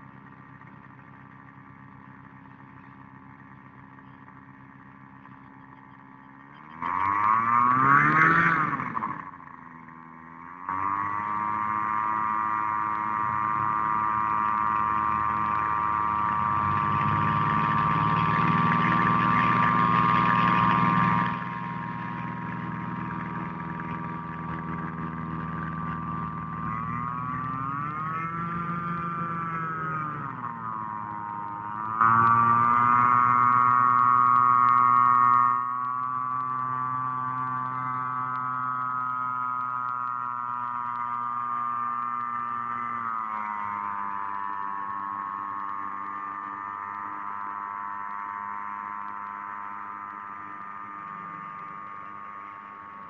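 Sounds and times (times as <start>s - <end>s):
propeller plane engine droning: 0.0s - 53.0s.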